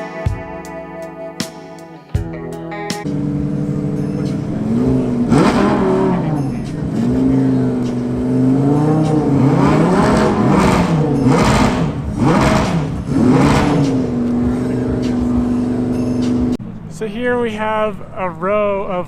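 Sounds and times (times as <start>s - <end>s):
car engine revving: 3.0s - 18.4s.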